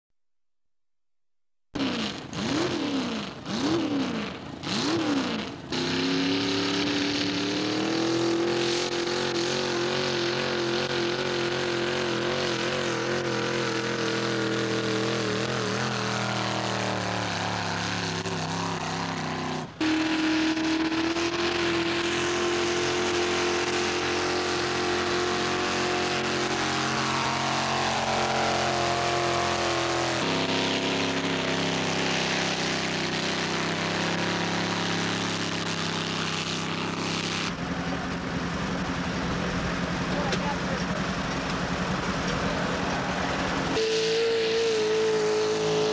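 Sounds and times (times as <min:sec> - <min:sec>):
tractor engine revving: 0:01.8 - 0:45.9.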